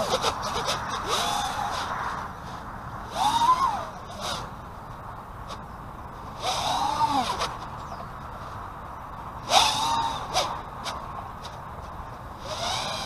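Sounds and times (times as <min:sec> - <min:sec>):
drone motors whining: 0:00.0 - 0:08.2, 0:09.4 - 0:13.0
rush of air: 0:00.0 - 0:11.3.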